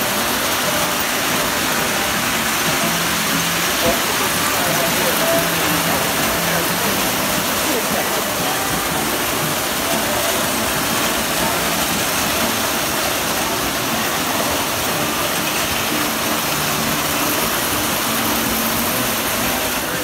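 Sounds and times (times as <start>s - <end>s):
model trains running on track: 0.0s - 20.0s.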